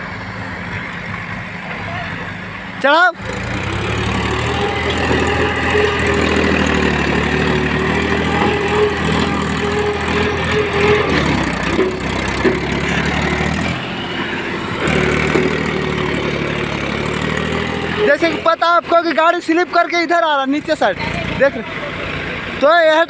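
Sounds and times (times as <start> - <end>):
diesel tractor engine under load: 0.0 - 23.0.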